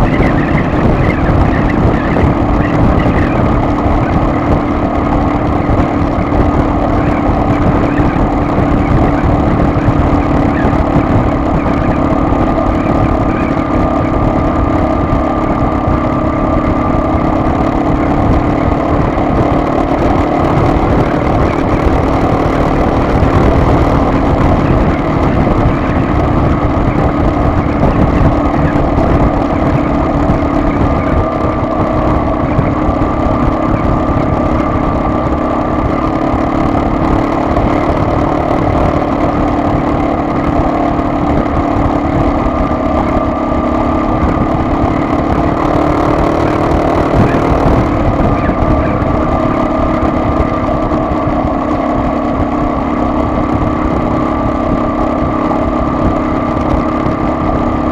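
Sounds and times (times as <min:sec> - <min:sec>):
car engine hum and road noise: 0:00.0 - 0:57.9.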